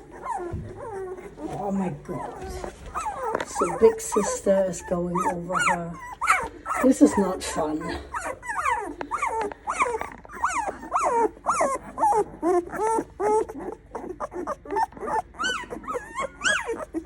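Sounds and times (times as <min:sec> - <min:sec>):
puppies squealing and whining: 0:00.0 - 0:17.0.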